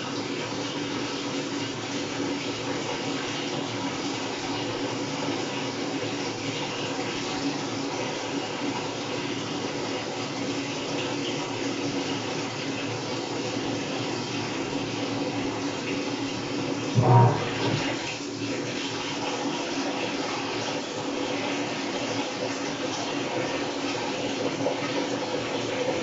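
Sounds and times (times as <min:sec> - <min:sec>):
water rushing in washing machine: 0:00.0 - 0:26.0.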